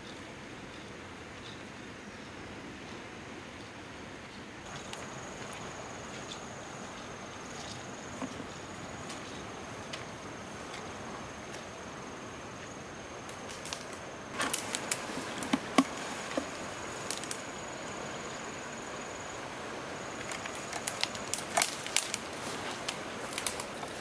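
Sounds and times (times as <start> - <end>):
high insect drone: 4.6 - 24.0.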